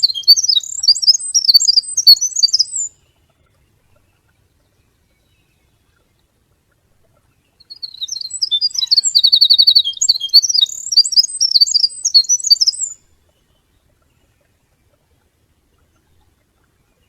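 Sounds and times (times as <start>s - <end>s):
songbird singing trills: 0.0s - 17.0s.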